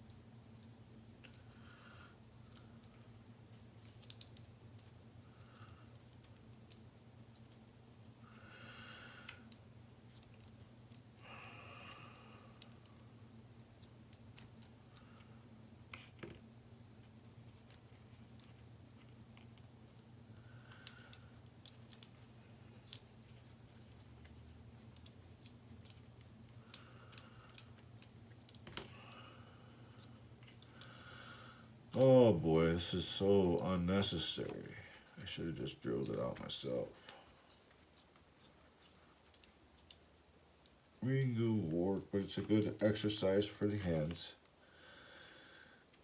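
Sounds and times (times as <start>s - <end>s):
low electrical hum: 0.0s - 46.0s.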